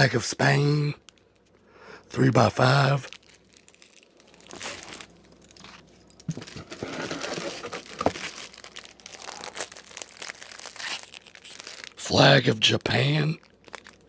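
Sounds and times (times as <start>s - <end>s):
packaging crinkling and rustling: 2.6s - 14.0s.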